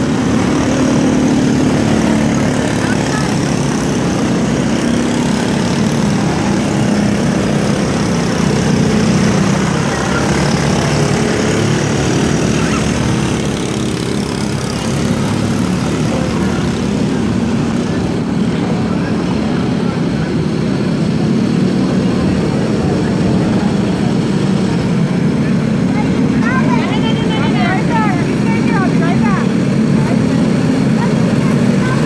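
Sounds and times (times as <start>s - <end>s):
race car engines droning: 0.0s - 32.0s.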